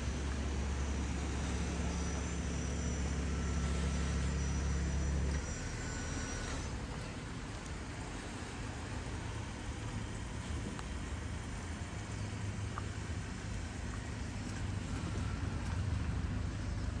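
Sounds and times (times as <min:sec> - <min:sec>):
faint high whine: 0:00.0 - 0:17.0
low engine rumble: 0:00.0 - 0:17.0.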